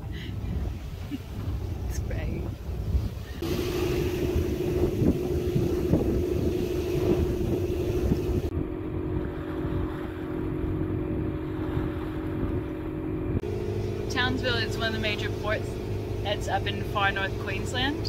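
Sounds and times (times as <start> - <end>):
boat engine droning: 0.0 - 18.0
wind buffeting microphone: 0.0 - 18.0.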